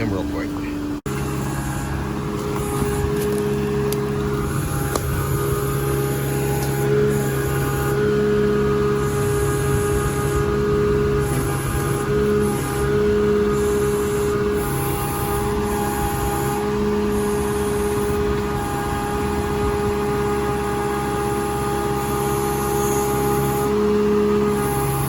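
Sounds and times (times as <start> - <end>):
digging machine engine running: 0.0 - 25.0.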